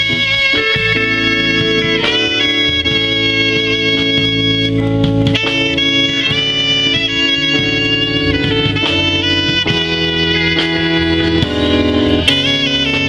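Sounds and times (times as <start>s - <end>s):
instrumental music: 0.0s - 13.0s.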